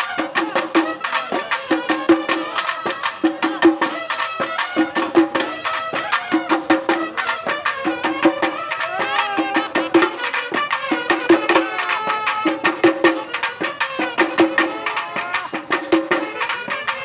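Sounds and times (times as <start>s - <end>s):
rapid drumbeats: 0.0s - 17.0s
wind instruments playing melody: 0.0s - 17.0s.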